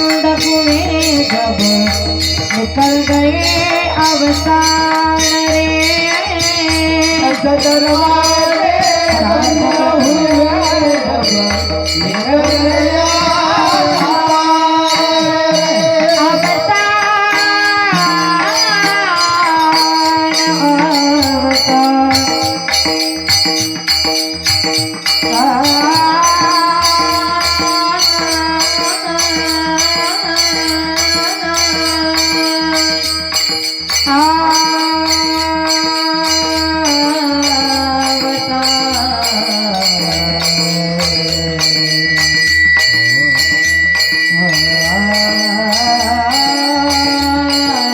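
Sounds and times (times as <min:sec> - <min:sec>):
jingling percussion: 0:00.0 - 0:47.9
woman singing devotional melody: 0:00.0 - 0:47.9.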